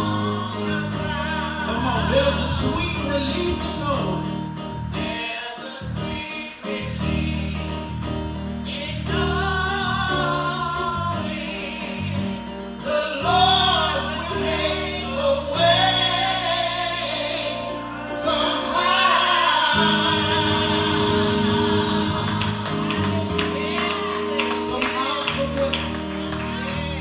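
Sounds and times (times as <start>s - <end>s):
gospel choir singing: 0.0s - 27.0s
instrumental accompaniment: 0.0s - 27.0s.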